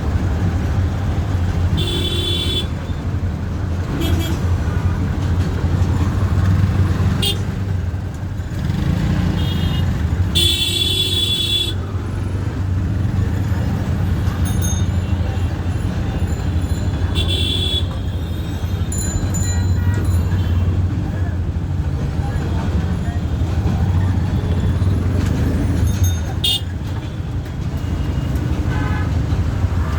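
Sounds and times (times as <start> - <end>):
train rumbling: 0.0 - 2.1, 2.7 - 9.0, 11.8 - 29.9.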